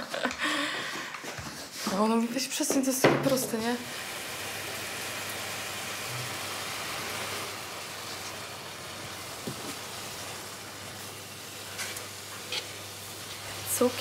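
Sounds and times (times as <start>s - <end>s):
filling sizzling in a pan: 1.7s - 14.0s.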